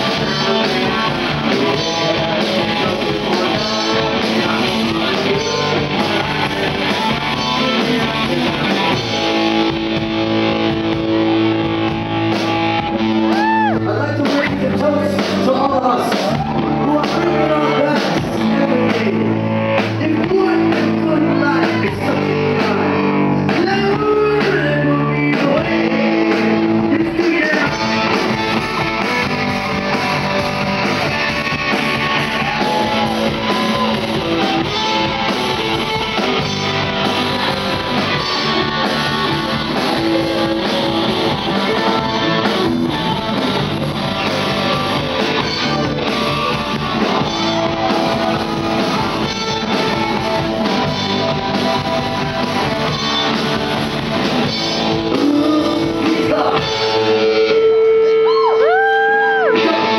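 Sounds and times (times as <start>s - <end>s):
bass guitar: 0.0s - 59.9s
drum kit: 0.0s - 59.9s
guitar: 0.0s - 59.9s
person singing: 0.0s - 59.9s.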